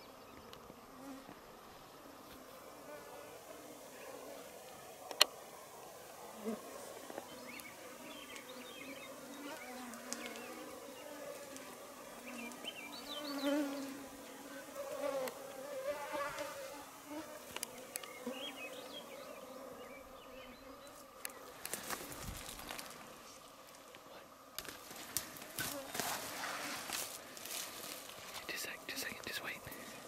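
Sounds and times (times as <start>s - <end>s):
insects buzzing: 0.0s - 30.0s.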